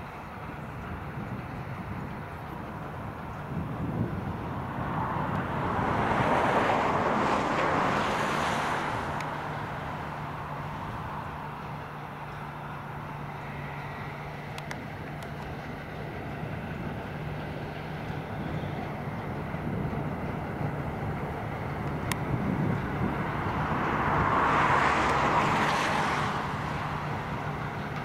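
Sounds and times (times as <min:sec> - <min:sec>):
broad rushing sound: 0:00.0 - 0:28.0
combine harvester drone: 0:00.0 - 0:28.0
tractor running: 0:00.0 - 0:28.0.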